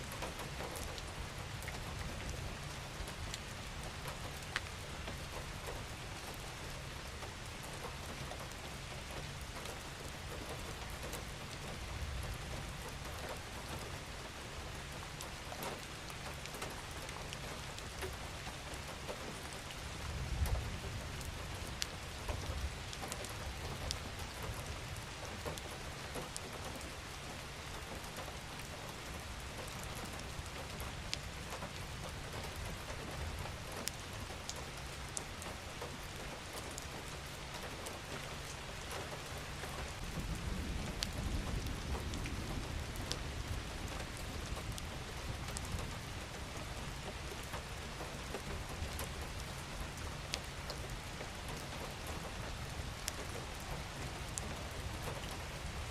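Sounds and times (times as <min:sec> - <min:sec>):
steady rain falling: 0:00.0 - 0:55.9
raindrops ticking: 0:07.0 - 0:55.9.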